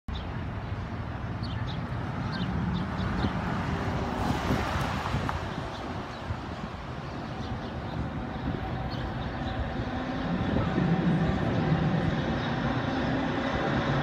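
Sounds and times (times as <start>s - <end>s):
passing traffic rumble: 0.1s - 14.0s.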